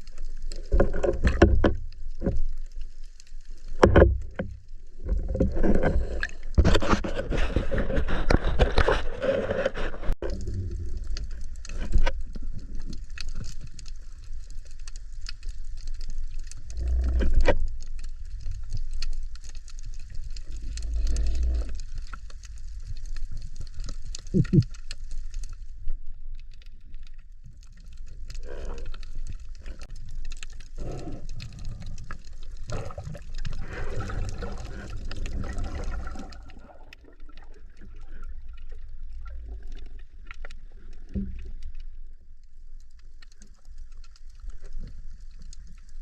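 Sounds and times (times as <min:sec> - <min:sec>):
water gurgling and sloshing: 0:00.0 - 0:46.0.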